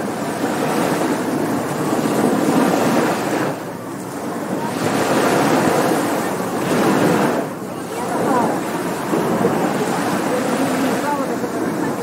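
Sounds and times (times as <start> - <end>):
surf washing up a beach: 0.0 - 12.0.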